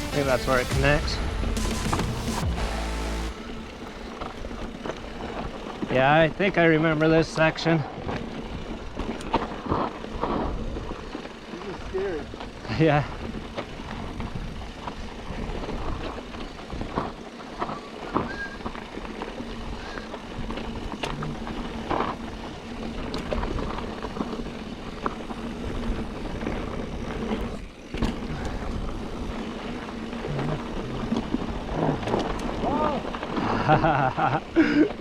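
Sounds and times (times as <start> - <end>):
tyres rolling over dirt and rocks: 3.3 - 35.0
bike knocking and rattling: 3.4 - 35.0.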